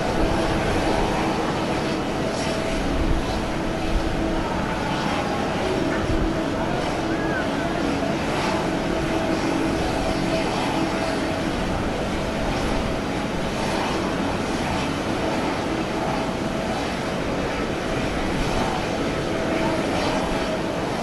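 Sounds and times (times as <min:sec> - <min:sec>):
jet engine noise: 0:00.0 - 0:21.0.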